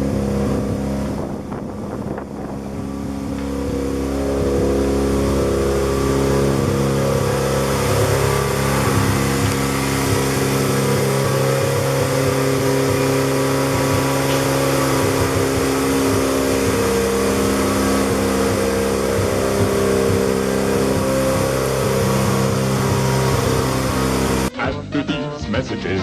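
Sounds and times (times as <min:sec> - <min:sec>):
rotary engine fast idle: 0:00.0 - 0:24.5.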